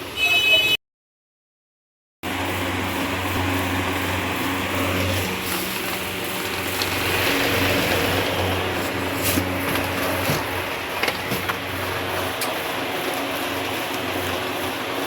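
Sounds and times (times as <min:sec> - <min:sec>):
workshop machinery humming: 0:02.2 - 0:15.0.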